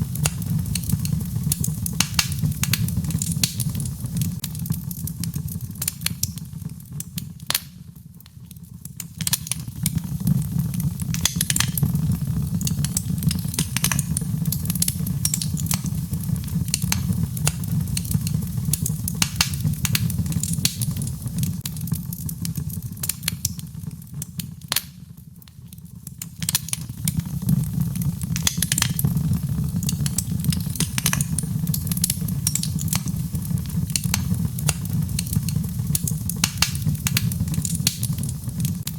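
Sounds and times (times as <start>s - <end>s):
burning wood crackling and popping: 0.0s - 38.9s
fire rumbling in fireplace: 0.0s - 38.9s.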